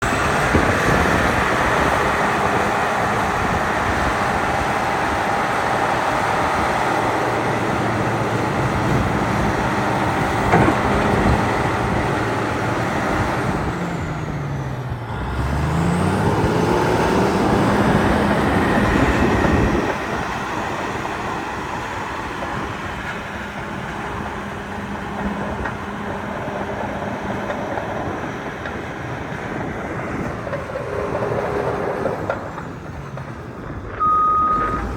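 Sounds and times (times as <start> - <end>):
diesel engine running loudly: 0.0 - 34.9.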